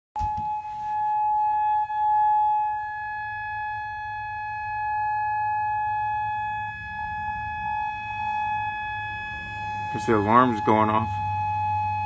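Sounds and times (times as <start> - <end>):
warning siren steady tone: 0.2 - 12.0.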